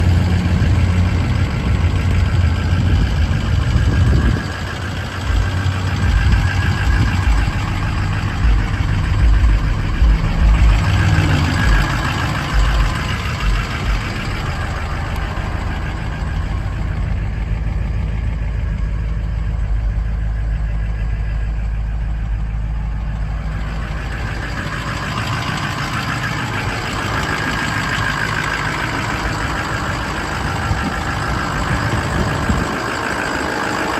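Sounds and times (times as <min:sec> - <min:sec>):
diesel truck engine running: 0:00.0 - 0:33.9.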